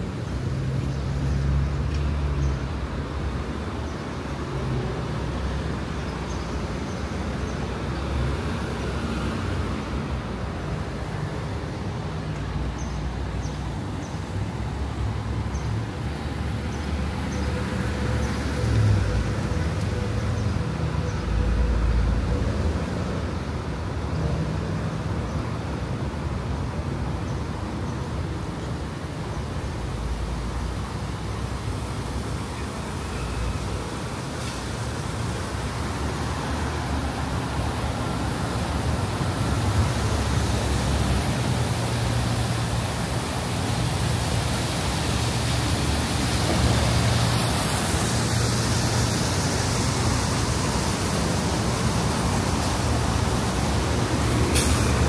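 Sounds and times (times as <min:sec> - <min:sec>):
cars driving past: 0:00.0 - 0:55.0.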